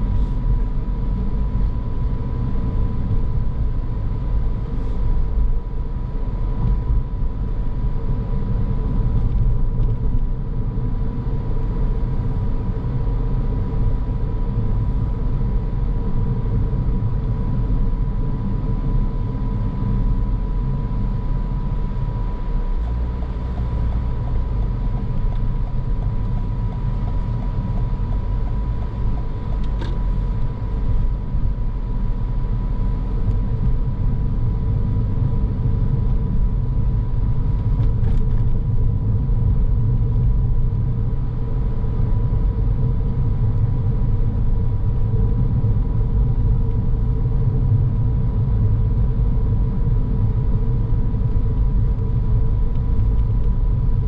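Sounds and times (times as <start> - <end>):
car tyres and engine rumbling: 0.0 - 54.0.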